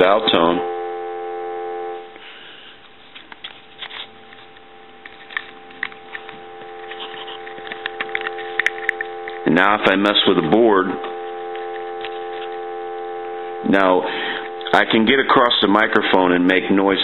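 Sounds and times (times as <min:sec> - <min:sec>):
telephone dial tone: 0:00.0 - 0:02.2, 0:03.2 - 0:15.2.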